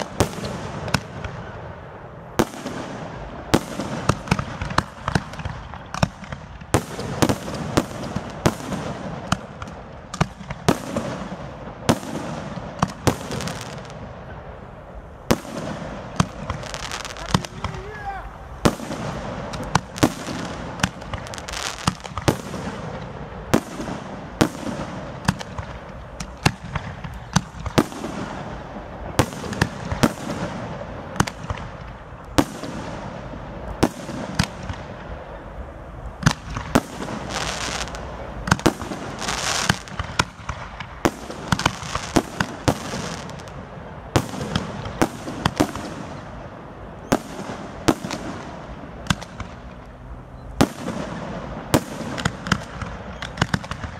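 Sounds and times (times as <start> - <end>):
continuous wash of noise: 0.0 - 53.9.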